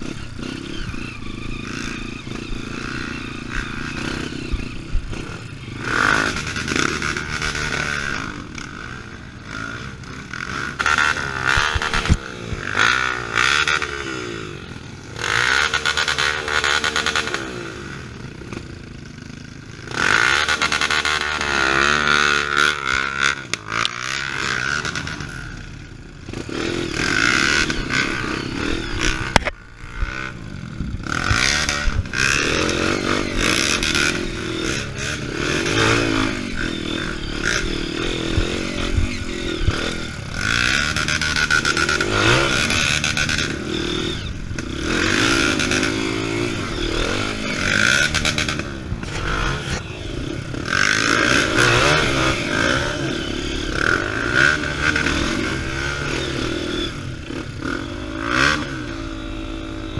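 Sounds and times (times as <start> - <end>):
motorcycle clattering over terrain: 0.0 - 59.9
motorcycle engine revving: 0.0 - 59.9.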